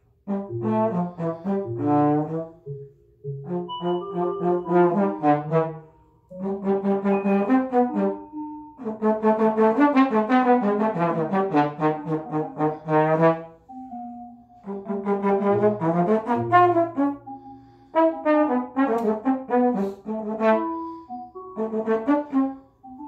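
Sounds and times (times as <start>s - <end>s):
trombone improvising: 0.2s - 23.0s.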